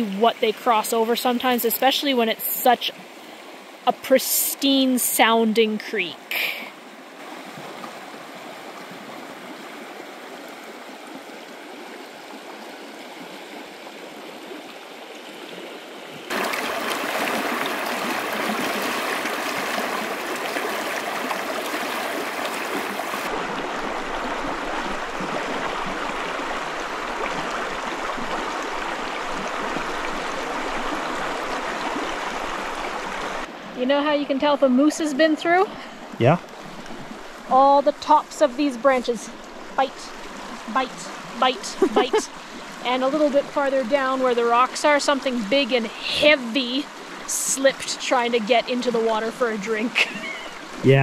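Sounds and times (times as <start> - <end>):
creek flowing over rocks: 0.0 - 51.0.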